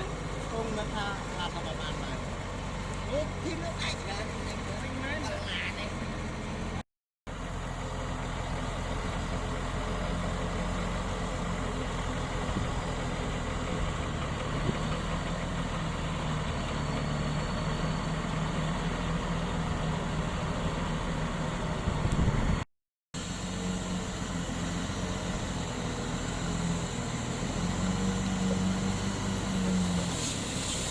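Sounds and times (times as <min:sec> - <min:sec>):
heavy diesel engine running: 0:00.0 - 0:22.6, 0:23.2 - 0:30.9.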